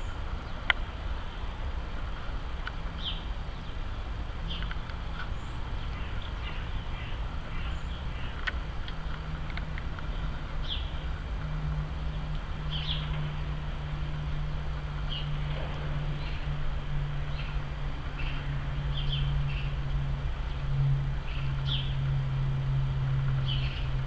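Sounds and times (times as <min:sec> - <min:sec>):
distant jet airliner rumble: 0:00.0 - 0:24.0
small birds chirping: 0:00.0 - 0:24.0.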